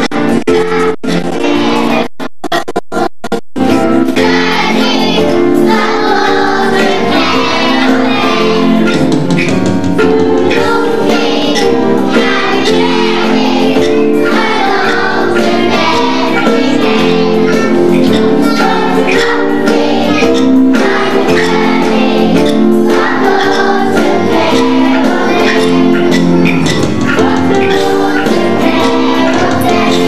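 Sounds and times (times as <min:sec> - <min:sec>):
music: 0:00.0 - 0:30.0
children singing: 0:00.6 - 0:02.1, 0:03.7 - 0:09.5, 0:10.1 - 0:30.0.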